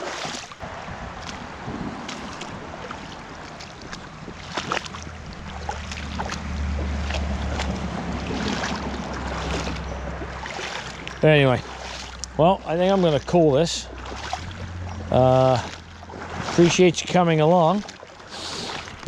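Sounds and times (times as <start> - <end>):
creek water flowing: 0.0 - 19.0
splashes of wading: 0.0 - 19.0
wind rumble on microphone: 0.5 - 12.6, 13.8 - 17.4.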